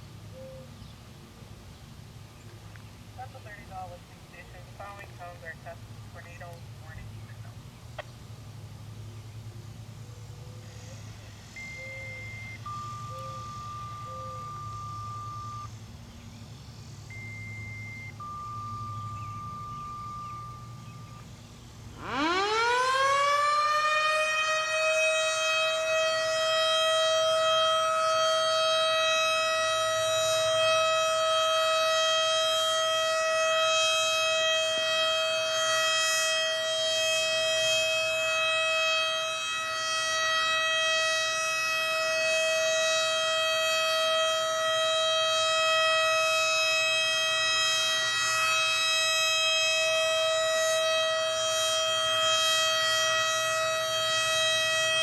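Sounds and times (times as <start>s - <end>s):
outdoor warning siren steady tone: 8.4s - 55.0s.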